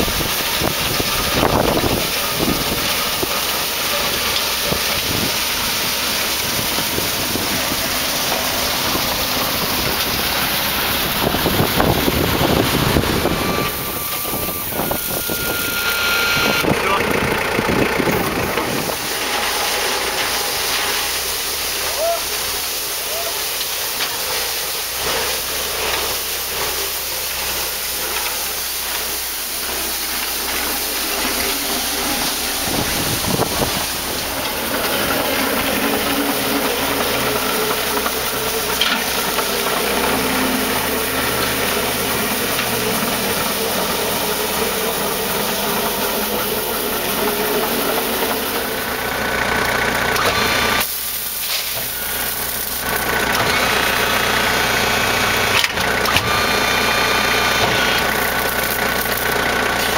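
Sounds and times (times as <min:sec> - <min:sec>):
brushes hissing on wet pavement: 0:00.0 - 0:17.1, 0:18.2 - 0:59.9
forklift engine running: 0:00.0 - 0:59.9.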